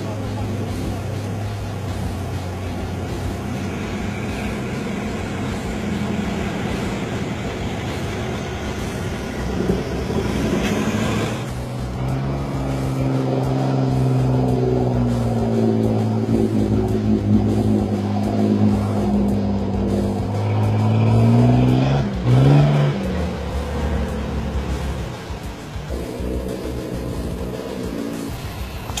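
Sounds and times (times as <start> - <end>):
off-road engines revving: 0.0 - 29.0
water rushing and splashing: 0.0 - 29.0.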